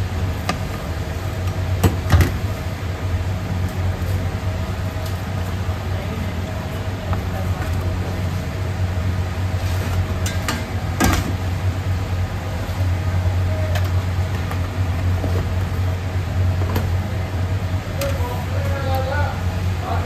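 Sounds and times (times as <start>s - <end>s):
oven fan and motor hum: 0.0s - 20.0s.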